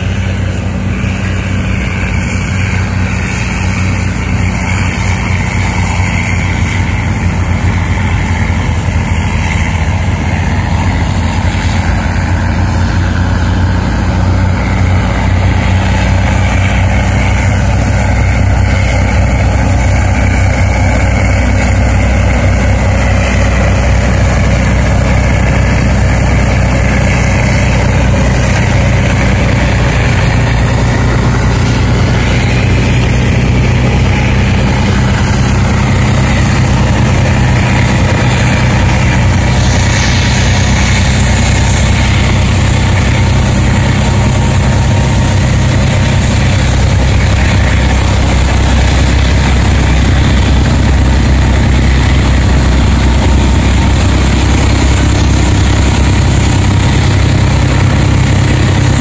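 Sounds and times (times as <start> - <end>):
heavy engine running under load: 0.0 - 59.0
snow blower rushing snow: 0.0 - 59.0.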